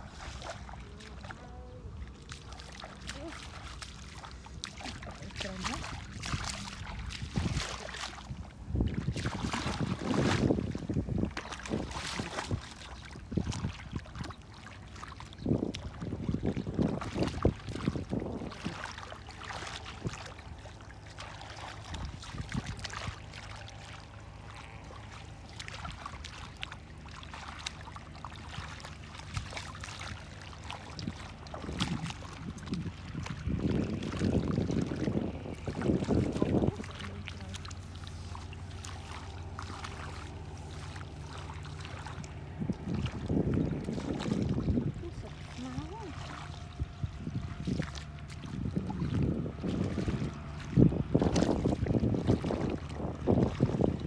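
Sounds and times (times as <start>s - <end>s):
hands splashing in muddy water: 0.0s - 1.5s, 2.1s - 54.0s
wind rumbling on microphone: 0.0s - 54.0s.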